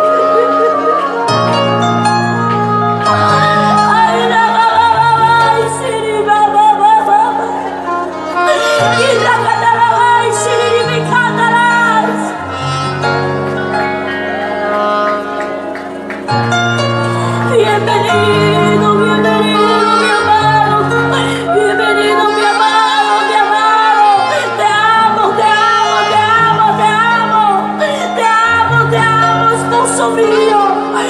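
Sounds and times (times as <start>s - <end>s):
woman singing: 0.0s - 2.4s, 3.0s - 12.5s, 17.3s - 31.0s
live band music: 0.0s - 31.0s.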